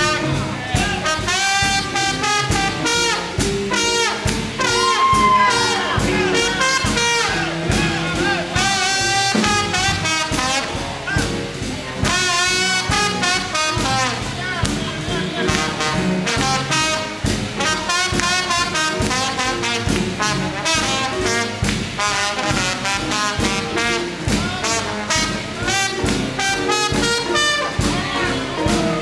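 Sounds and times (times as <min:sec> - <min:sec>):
big band swing blues: 0:00.0 - 0:29.0.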